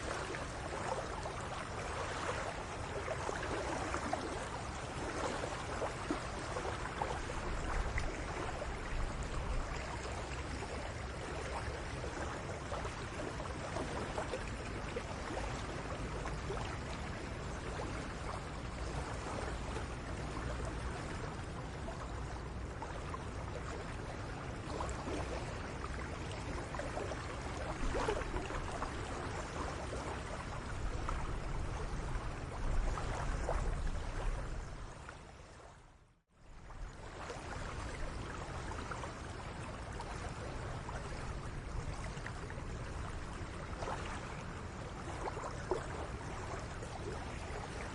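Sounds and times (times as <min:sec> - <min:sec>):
water lapping at shore: 0:00.0 - 0:47.9.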